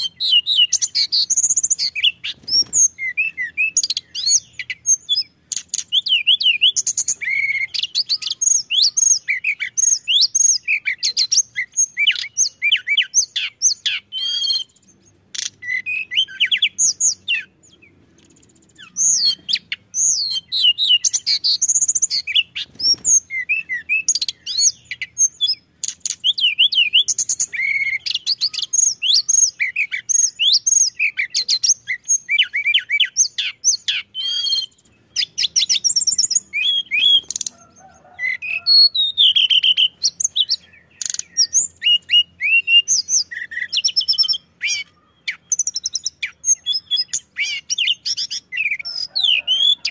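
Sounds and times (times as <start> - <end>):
bird singing whistled notes and chirps: 0.0 - 49.9.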